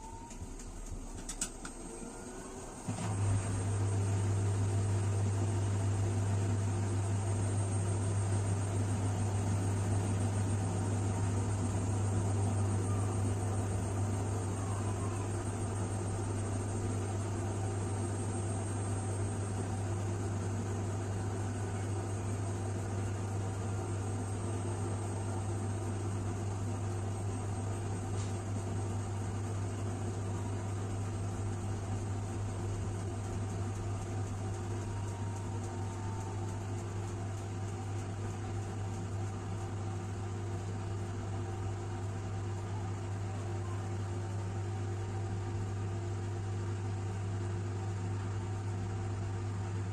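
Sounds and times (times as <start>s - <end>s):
washing machine motor hum: 0.0s - 49.9s.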